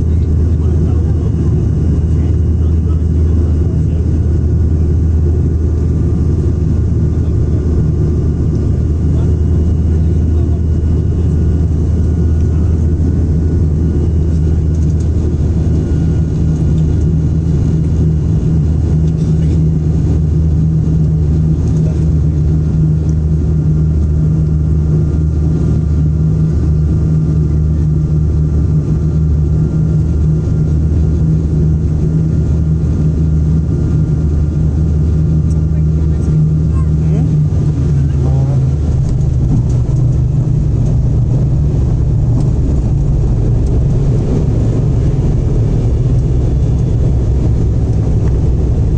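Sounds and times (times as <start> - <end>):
airliner engine drone in cabin: 0.0 - 48.9.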